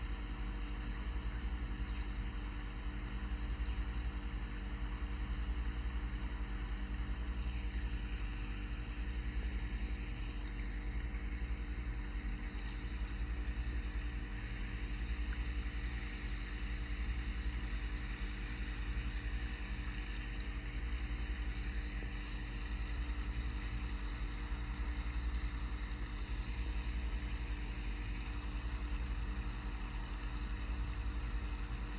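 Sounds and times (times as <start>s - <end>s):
low droning hum: 0.0s - 31.9s.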